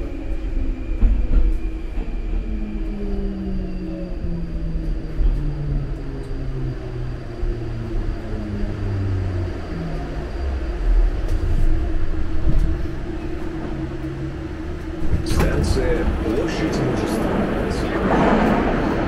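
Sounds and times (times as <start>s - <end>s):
subway train braking: 0.0s - 19.0s.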